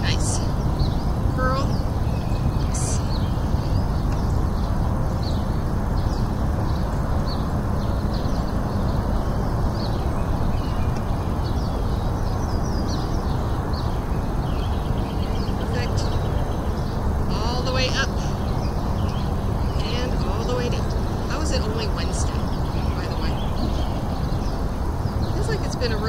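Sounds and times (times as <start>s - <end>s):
low rumbling noise: 0.0s - 26.0s
small birds chirping: 0.0s - 26.0s.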